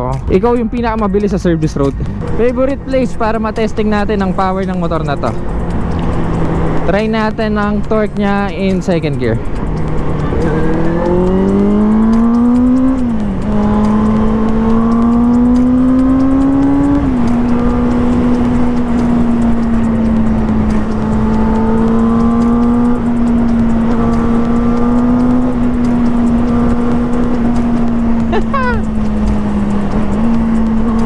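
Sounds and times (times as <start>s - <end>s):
motorcycle engine accelerating: 1.9s - 31.0s.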